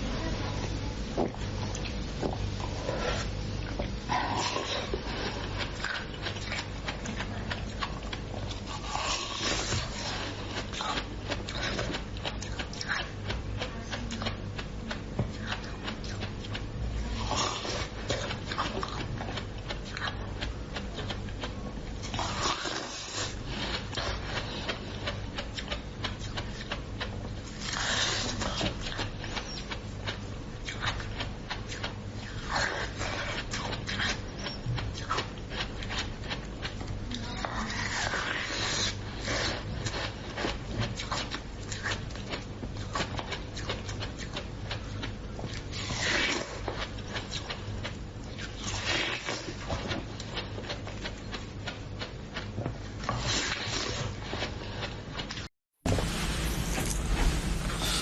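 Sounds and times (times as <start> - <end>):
food crunching while chewed: 1.0 - 58.0.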